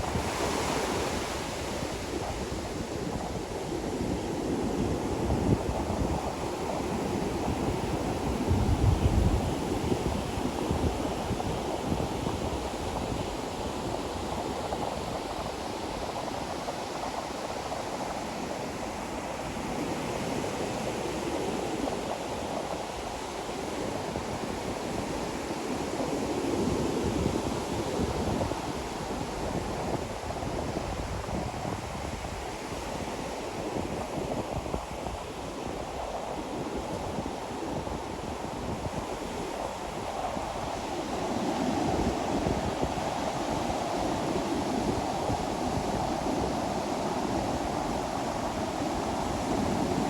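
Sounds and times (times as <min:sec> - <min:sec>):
ocean waves on a beach: 0:00.0 - 0:50.0.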